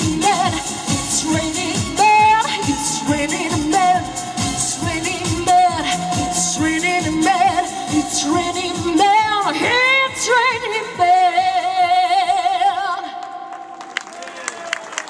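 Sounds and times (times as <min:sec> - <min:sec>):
woman singing pop song: 0:00.0 - 0:13.2.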